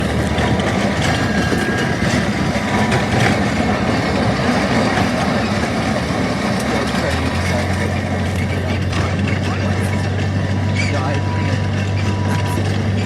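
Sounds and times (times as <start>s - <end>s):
ride train rumbling: 0.0s - 13.0s.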